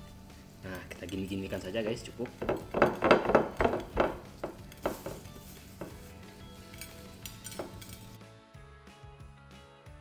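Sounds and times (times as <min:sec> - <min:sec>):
hand rubbing spice into steak: 0:00.0 - 0:08.2.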